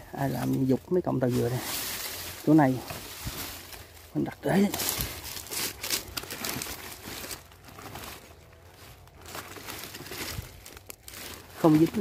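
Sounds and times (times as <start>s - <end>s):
dry leaves rustling and crackling: 0.0s - 12.0s.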